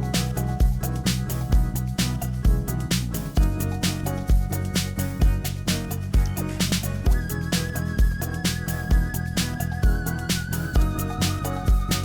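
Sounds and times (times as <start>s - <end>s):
upbeat funk music: 0.0s - 12.0s.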